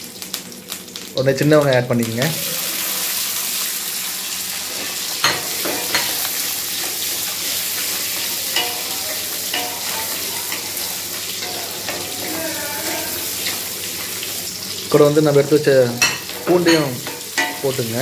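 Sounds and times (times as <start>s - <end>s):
shallots sizzling in oil: 0.0s - 18.0s.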